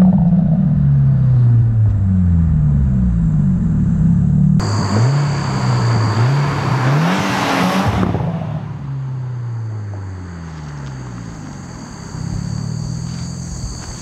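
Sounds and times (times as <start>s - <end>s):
car engine accelerating away: 0.0s - 14.0s.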